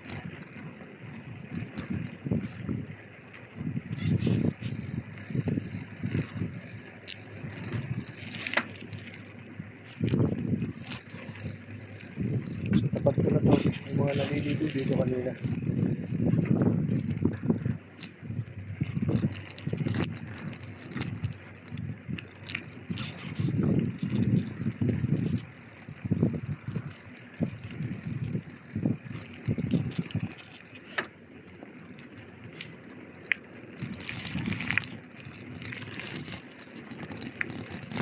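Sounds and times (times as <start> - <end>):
bicycle clicks and rattles: 0.0 - 38.0
wind rumble on microphone: 0.0 - 38.0.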